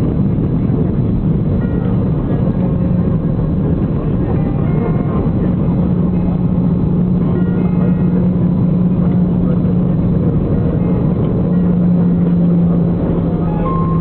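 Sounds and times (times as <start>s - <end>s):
jet airliner cabin noise: 0.0s - 14.0s.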